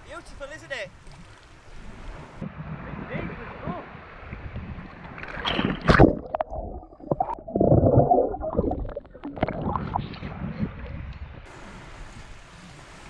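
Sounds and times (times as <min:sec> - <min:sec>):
water splashing: 0:00.9 - 0:13.0
water gurgling over microphone: 0:01.0 - 0:12.9.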